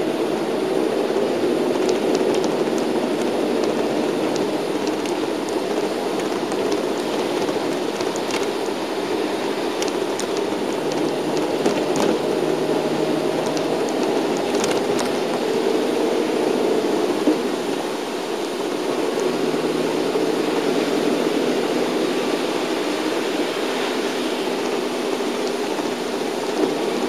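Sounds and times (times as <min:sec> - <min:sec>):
bus engine and road noise: 0:00.0 - 0:27.0
tyres on a wet road: 0:00.0 - 0:27.0.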